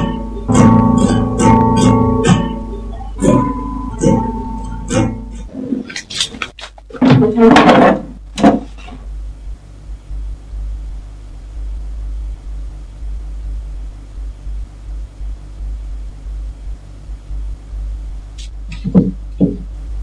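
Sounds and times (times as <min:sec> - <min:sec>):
faint hum: 0:00.0 - 0:20.0
low steady background rumble: 0:00.0 - 0:20.0.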